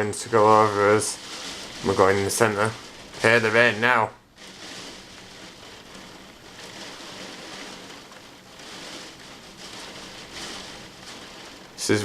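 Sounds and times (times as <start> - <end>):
heavy rain against window: 0.0 - 12.0.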